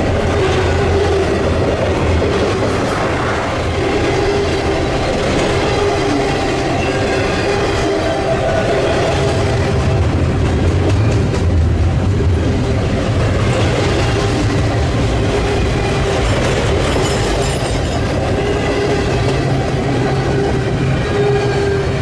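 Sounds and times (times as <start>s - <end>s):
freight train wheels rumbling: 0.0s - 22.0s
train clatter: 0.0s - 22.0s.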